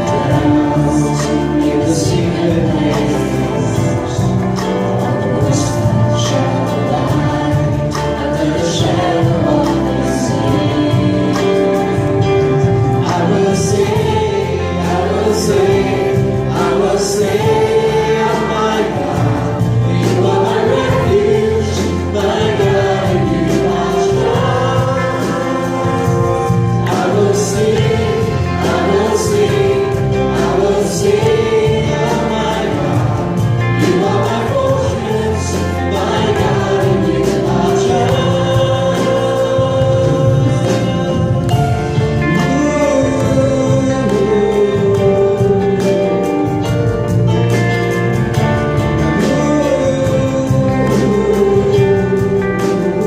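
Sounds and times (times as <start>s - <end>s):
group singing gospel song: 0.0s - 53.0s
instrumental backing: 0.0s - 53.0s.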